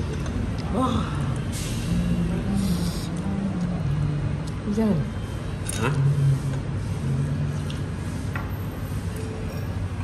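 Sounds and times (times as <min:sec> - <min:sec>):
restaurant murmur and hum: 0:00.0 - 0:10.0.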